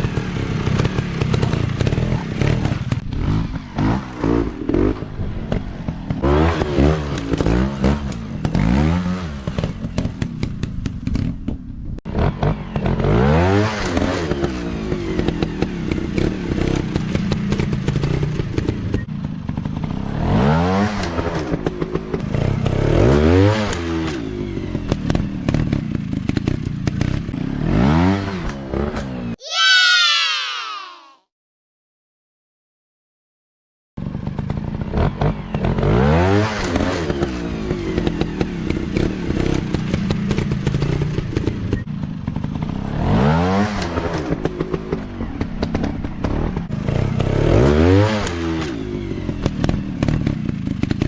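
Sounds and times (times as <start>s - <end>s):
motorcycle engines revving: 0.0s - 11.4s, 12.1s - 29.4s, 34.0s - 51.0s.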